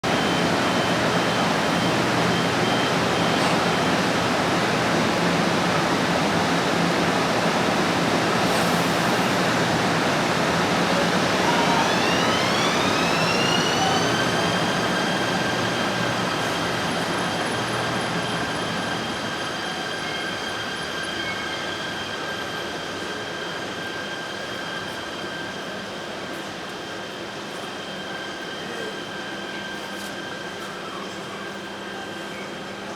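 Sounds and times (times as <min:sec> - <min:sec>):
train rumble and hiss: 0:00.0 - 0:32.9
train whine rising: 0:00.1 - 0:32.1.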